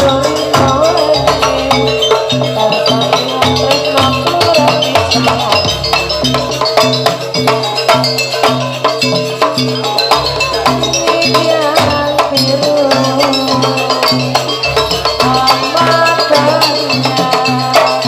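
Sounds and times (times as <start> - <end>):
drums: 0.0 - 18.0
metal percussion beat: 0.0 - 18.0
wavering melody: 0.0 - 18.0.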